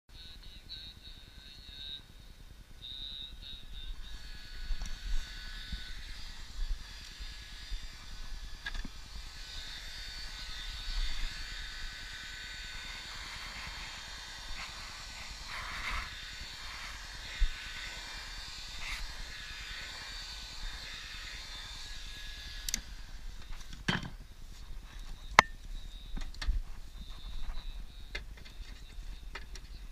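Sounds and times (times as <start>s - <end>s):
high-pitched whine: 0.1s - 29.9s.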